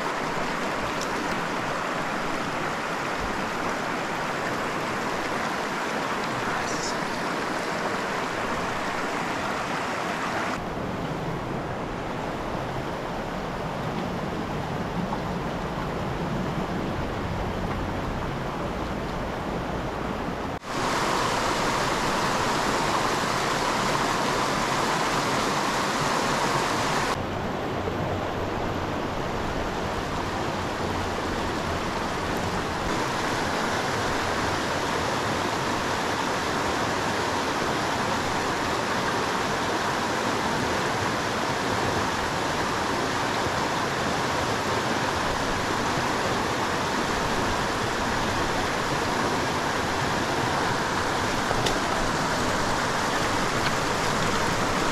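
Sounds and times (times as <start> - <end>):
creek water rushing over rocks: 0.0 - 54.9.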